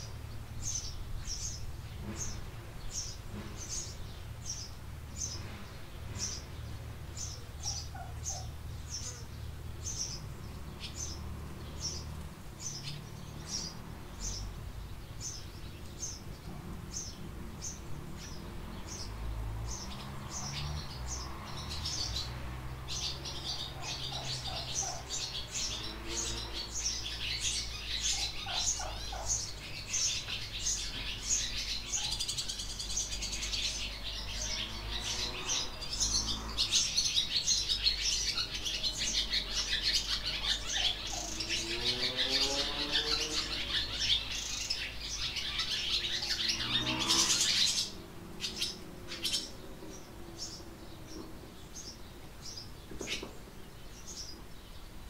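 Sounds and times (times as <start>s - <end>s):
lower bird calls: 0.0s - 55.0s
small birds chirping: 0.0s - 55.0s.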